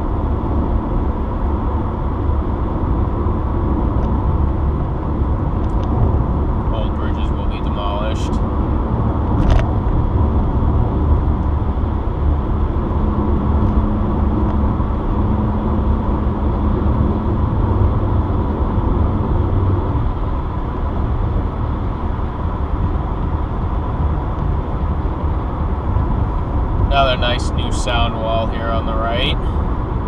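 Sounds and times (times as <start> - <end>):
car road and engine noise: 0.0 - 30.0.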